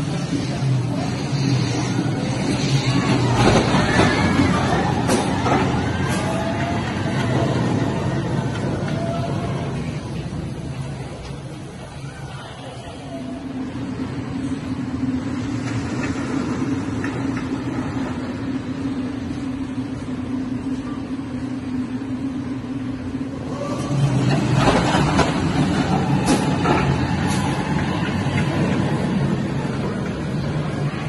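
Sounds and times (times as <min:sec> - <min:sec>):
roller coaster rumbling on track: 0:00.0 - 0:31.0
steady low hum: 0:00.0 - 0:31.0.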